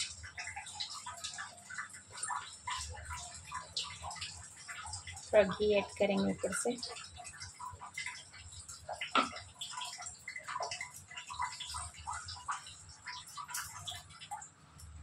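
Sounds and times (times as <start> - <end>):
ghee crackling in hot pan: 0.0 - 15.0.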